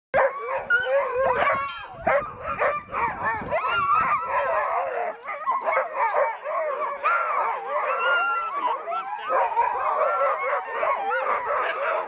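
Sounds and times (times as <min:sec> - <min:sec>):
sled dogs barking and yelping: 0:00.2 - 0:12.0.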